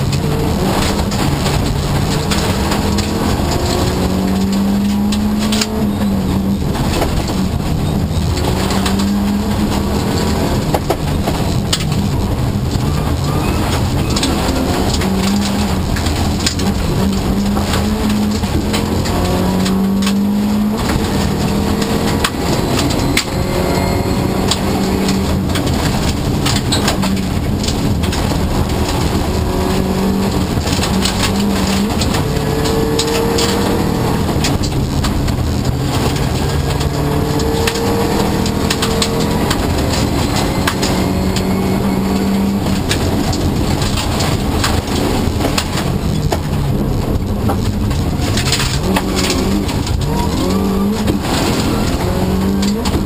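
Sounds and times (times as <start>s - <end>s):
rally car engine driven hard: 0.0s - 53.0s
stones rattling against car: 0.0s - 53.0s.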